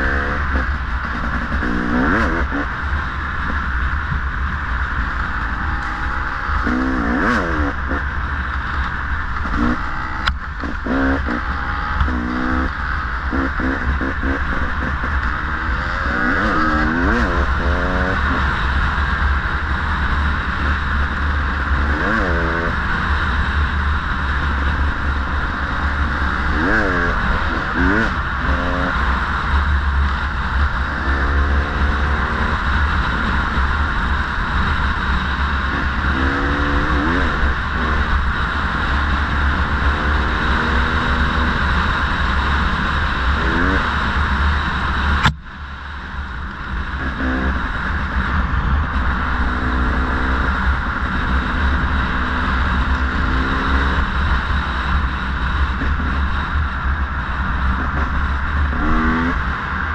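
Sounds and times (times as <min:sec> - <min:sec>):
motorcycle engine revving: 0:00.0 - 0:59.9
wind rumbling on microphone: 0:00.0 - 0:59.9.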